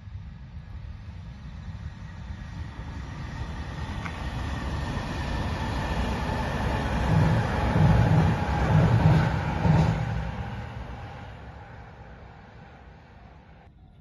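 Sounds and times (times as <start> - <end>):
train wheels rumbling on rails: 0.0 - 13.7
faint train whine: 0.0 - 14.0.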